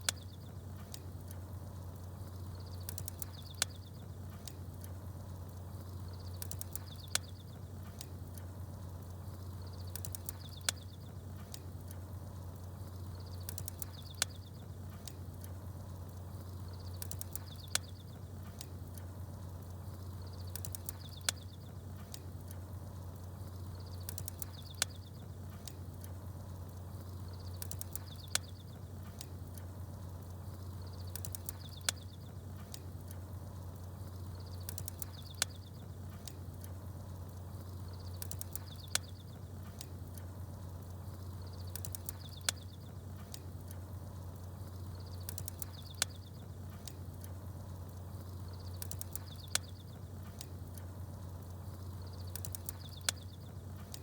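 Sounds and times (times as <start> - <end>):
campfire crackling: 0.0 - 54.0
small birds chirping: 0.0 - 54.0.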